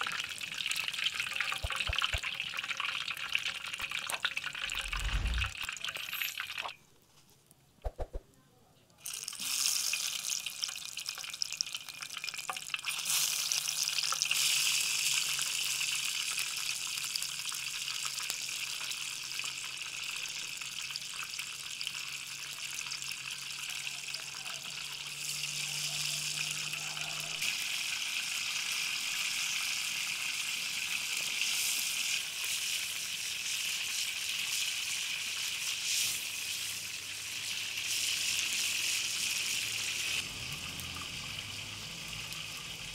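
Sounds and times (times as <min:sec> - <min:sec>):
tomatoes sizzling in hot oil: 0:00.0 - 0:05.5, 0:09.0 - 0:42.9.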